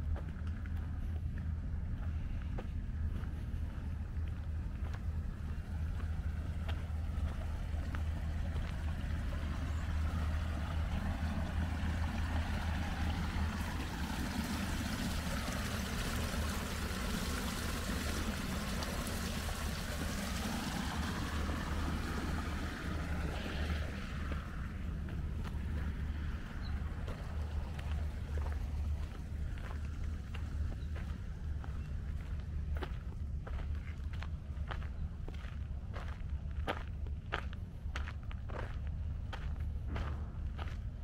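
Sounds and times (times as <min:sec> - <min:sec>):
wind rumbling on microphone: 0:00.0 - 0:41.0.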